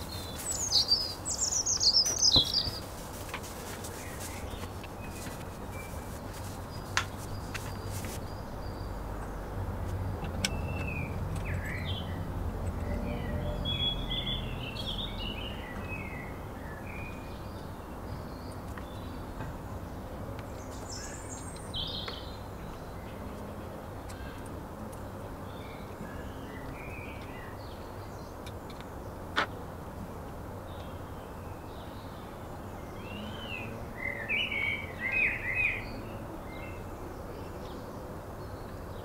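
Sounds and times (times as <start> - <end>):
small birds chirping: 0.0 - 29.6, 30.2 - 39.0.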